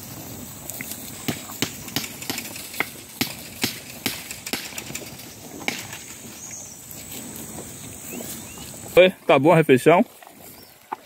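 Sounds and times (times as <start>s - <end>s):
cattle tearing grass: 0.0s - 11.0s.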